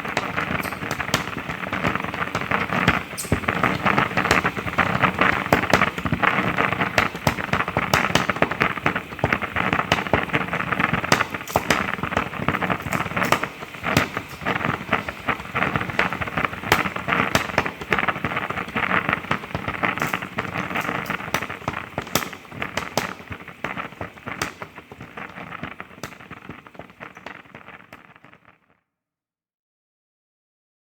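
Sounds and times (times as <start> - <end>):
steam hissing and sputtering: 0.0 - 28.0.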